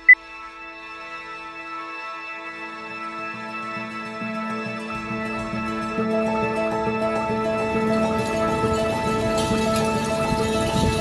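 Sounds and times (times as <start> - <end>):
slow instrumental background music: 0.0 - 11.0.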